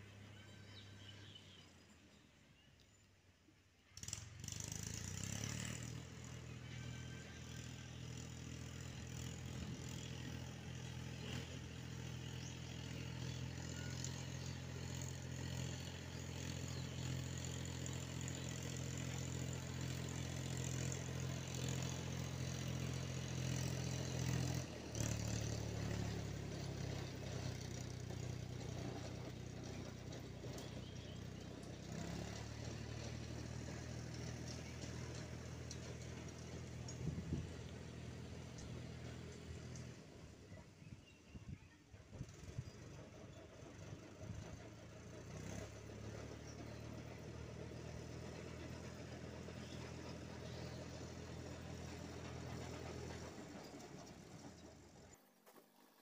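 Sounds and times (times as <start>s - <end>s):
diesel tractor engine running: 3.9s - 55.4s.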